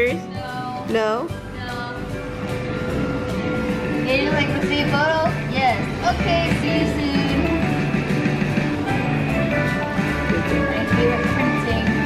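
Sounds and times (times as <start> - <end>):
upbeat music with guitar and bass: 0.0 - 12.0.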